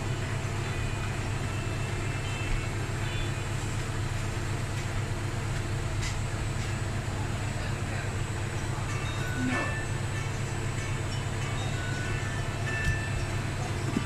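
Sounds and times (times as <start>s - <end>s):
washing machine rumbling: 0.0s - 14.0s.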